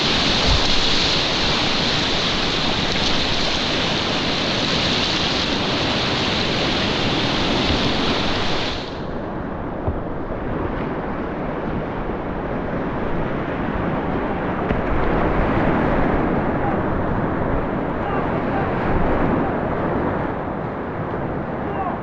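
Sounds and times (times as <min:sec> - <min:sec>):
river whitewater rushing: 0:00.0 - 0:09.4, 0:13.0 - 0:22.0.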